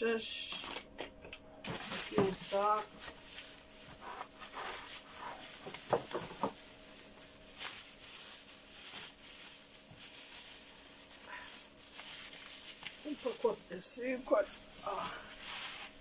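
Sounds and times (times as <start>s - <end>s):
plastic bag rustling: 1.6s - 16.0s.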